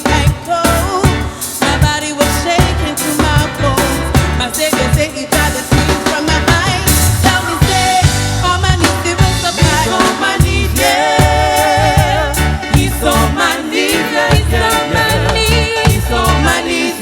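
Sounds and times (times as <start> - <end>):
gospel band music: 0.0 - 17.0.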